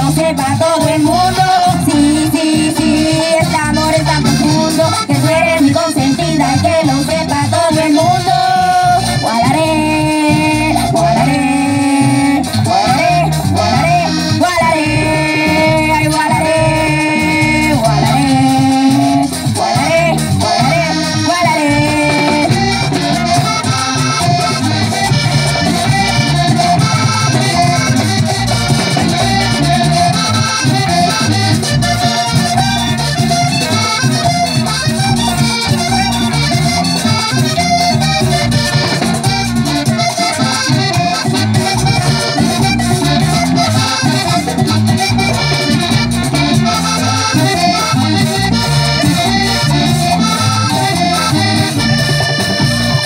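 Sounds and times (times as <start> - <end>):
live band with accordion: 0.0 - 53.0
percussion beat: 0.0 - 53.0.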